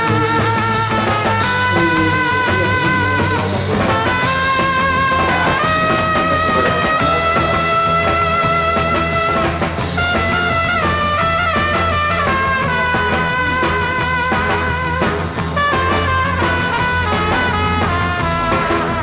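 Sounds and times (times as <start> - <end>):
background music with bass line: 0.0 - 19.0.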